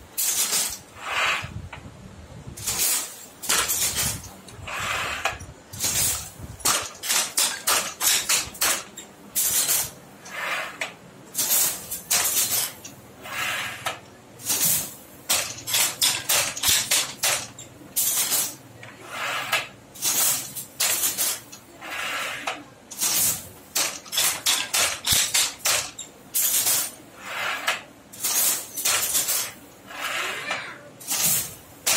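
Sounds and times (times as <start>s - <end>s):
handloom clacking and swishing: 0.0s - 1.9s, 2.6s - 31.9s.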